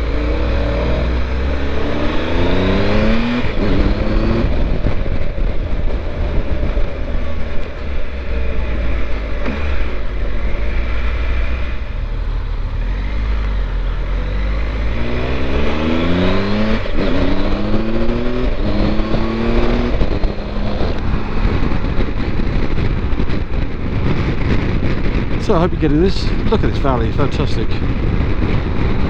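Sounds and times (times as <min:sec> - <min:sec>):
low wind rumble: 0:00.0 - 0:29.0
motorcycle engine accelerating: 0:00.0 - 0:29.0.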